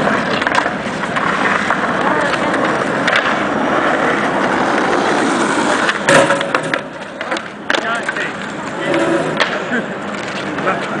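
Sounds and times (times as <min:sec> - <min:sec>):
skateboard wheels rolling on pavement: 0:00.0 - 0:11.0.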